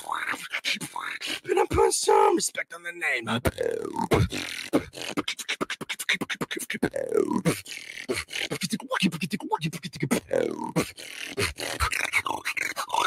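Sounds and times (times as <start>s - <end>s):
beatboxing clicks kicks and snares: 0.0s - 1.9s, 3.4s - 13.0s.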